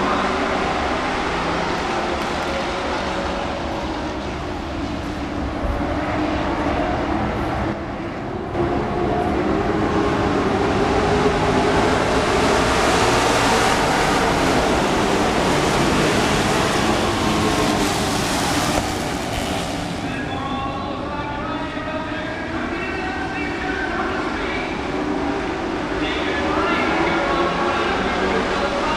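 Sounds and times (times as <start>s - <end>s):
racing truck engines roaring: 0.0s - 28.9s.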